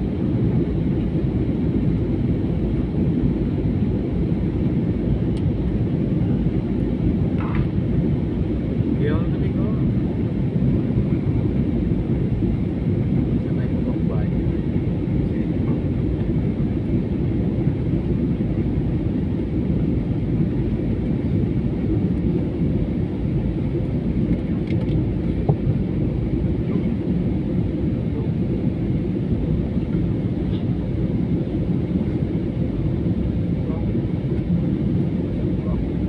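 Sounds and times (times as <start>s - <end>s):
airliner engines rumbling: 0.0s - 36.0s.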